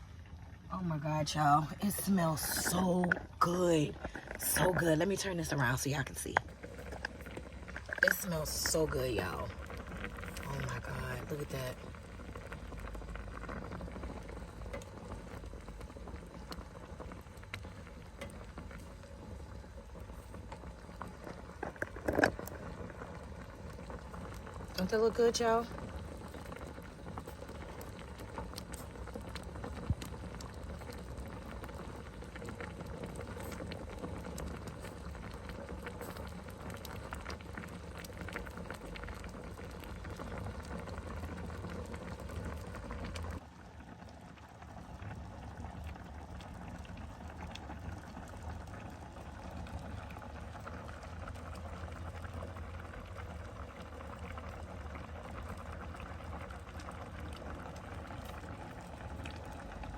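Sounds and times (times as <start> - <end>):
pot bubbling and sizzling: 0.0 - 59.9.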